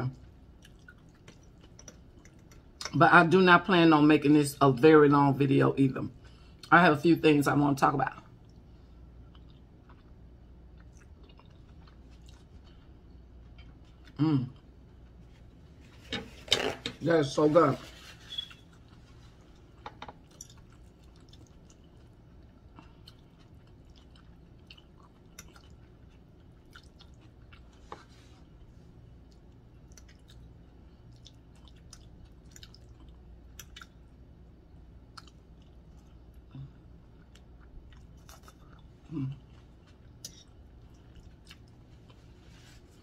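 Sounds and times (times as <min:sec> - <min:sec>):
steady low hum: 0:00.0 - 0:43.0
person chewing: 0:00.2 - 0:03.0, 0:08.3 - 0:16.8, 0:18.3 - 0:34.2, 0:35.0 - 0:43.0.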